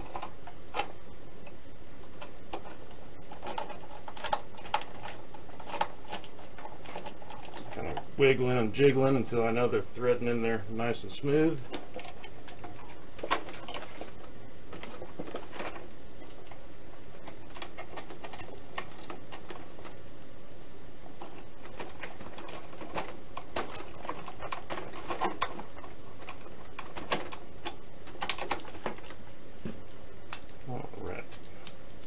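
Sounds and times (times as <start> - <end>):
light clicks and scratches: 0.0 - 1.6, 2.2 - 20.0, 21.0 - 32.0.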